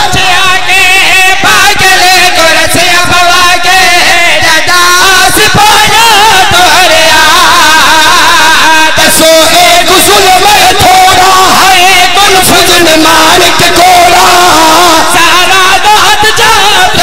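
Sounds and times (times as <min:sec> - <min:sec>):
man singing a mourning lament: 0:00.0 - 0:17.0.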